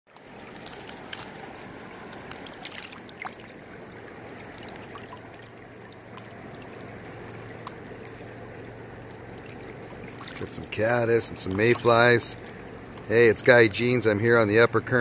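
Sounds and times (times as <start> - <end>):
water splashes and drips: 0.1 - 14.2
river running over stones: 0.1 - 15.0.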